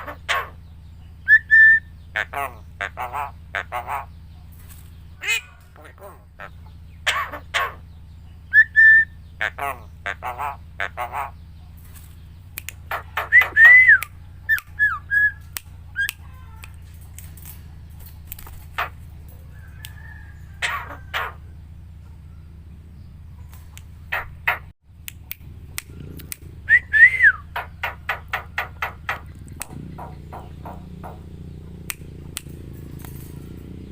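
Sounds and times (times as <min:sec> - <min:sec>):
myna bird calling: 0:00.0 - 0:33.9.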